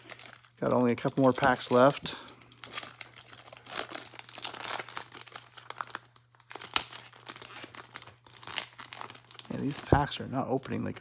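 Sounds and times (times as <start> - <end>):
foil wrapper crinkling and tearing: 0.0 - 11.0
wrapper ripping: 0.0 - 11.0.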